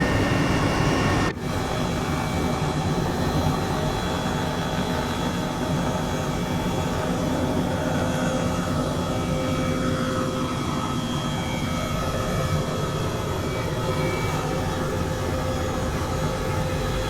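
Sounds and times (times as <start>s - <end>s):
helicopter engine and rotor noise: 0.0s - 17.0s.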